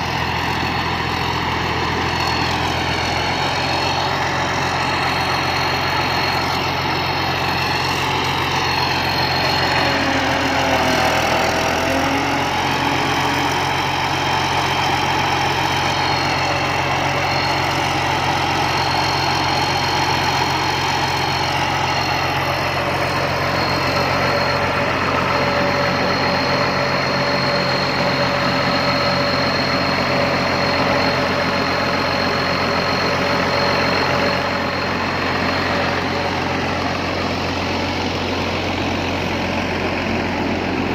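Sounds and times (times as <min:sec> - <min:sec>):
harvester engine running: 0:00.0 - 0:40.9
high whine: 0:00.0 - 0:40.9.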